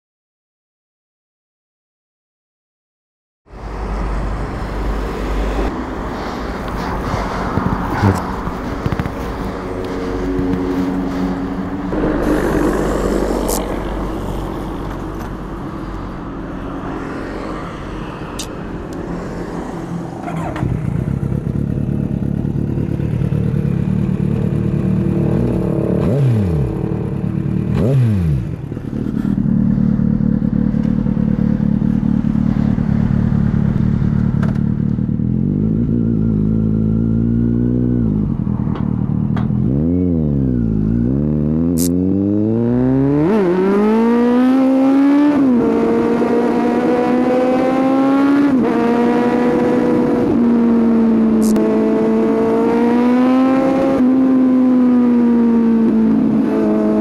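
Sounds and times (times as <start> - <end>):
motorcycle engine revving: 6.5 - 15.5, 19.2 - 57.0.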